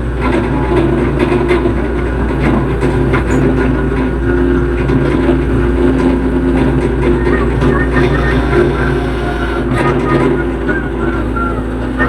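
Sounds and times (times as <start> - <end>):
excavator diesel engine running: 0.0 - 12.0
short knocks and clatter: 0.0 - 12.0.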